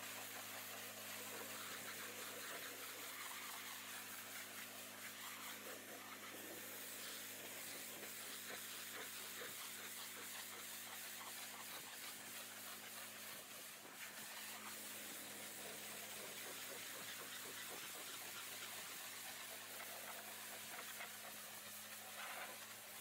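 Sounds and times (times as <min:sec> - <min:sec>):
pressure washer spraying metal: 0:00.0 - 0:23.0.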